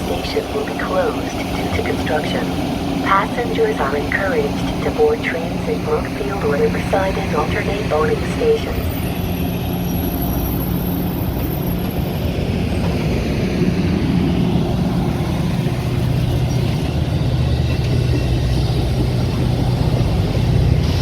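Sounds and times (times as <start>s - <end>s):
train rumble inside coach: 0.0s - 21.0s.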